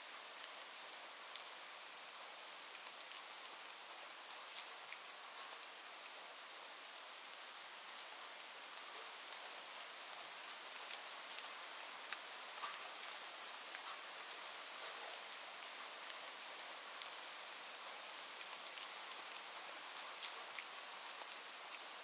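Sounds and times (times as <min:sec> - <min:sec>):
rain hissing with drop ticks: 0:00.0 - 0:22.0.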